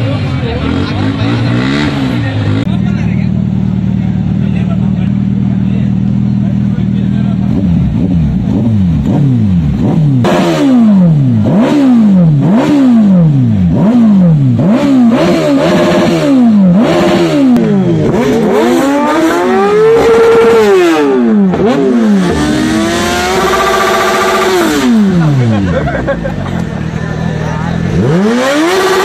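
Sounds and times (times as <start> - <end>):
vehicle engine revving: 0.0 - 29.0.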